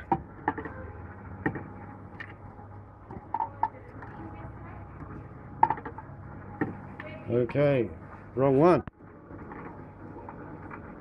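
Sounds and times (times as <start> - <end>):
machine low hum: 0.0 - 11.0.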